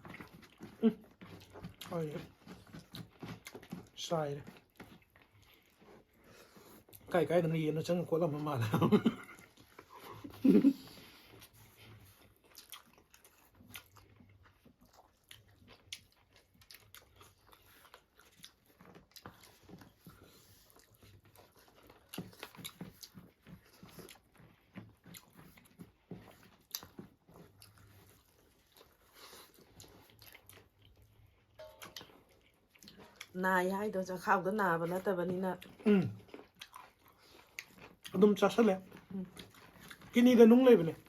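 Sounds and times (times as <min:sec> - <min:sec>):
chewing and crunching: 0:00.0 - 0:41.0.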